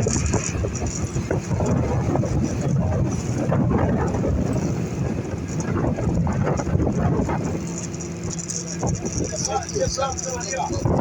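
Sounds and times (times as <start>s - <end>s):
boat motor running: 0.0s - 11.0s
wind buffeting microphone: 0.0s - 11.0s.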